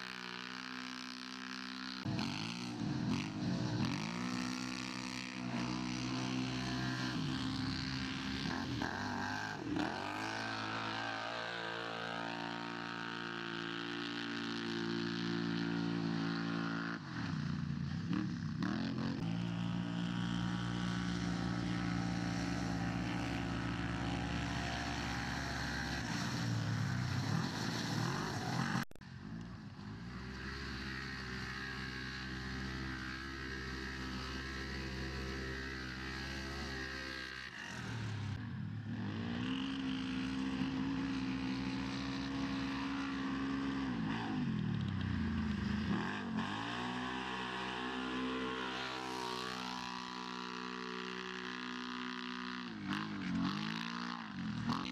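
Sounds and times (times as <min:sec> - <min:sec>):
off-road vehicle engines revving: 0:00.0 - 0:54.9.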